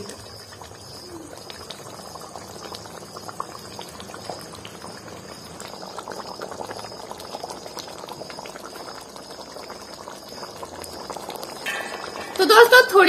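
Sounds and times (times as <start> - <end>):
curry gravy bubbling and popping: 0.0 - 13.0.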